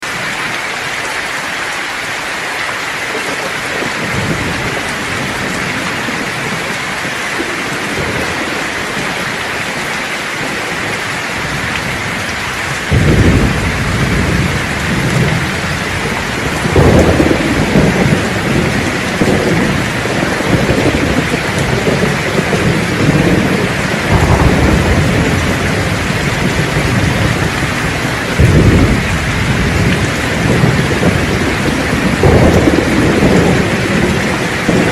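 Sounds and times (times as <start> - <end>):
heavy rain hissing: 0.0 - 34.9
thunder rumbling: 3.1 - 34.9.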